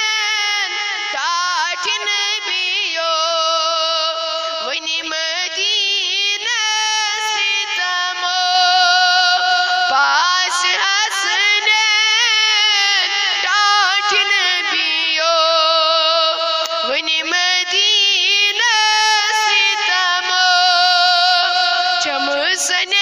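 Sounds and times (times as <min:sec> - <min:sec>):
person singing devotional song: 0:00.0 - 0:23.0.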